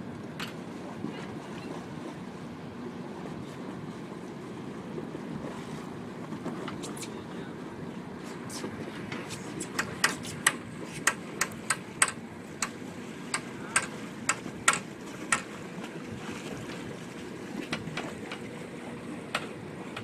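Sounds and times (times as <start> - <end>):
fishing boat engine rumble: 0.0 - 20.0.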